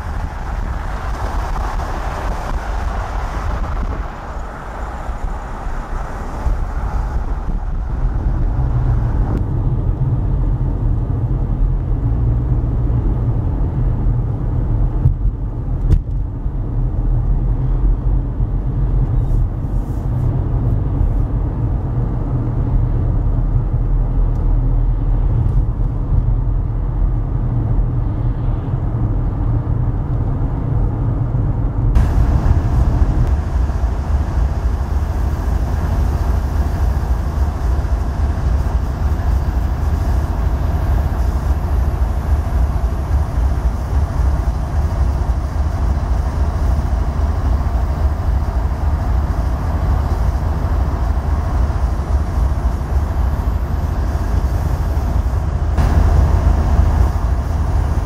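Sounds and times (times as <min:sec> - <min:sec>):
road and engine rumble in car: 0:00.0 - 0:58.0
wind buffeting microphone: 0:00.0 - 0:58.0.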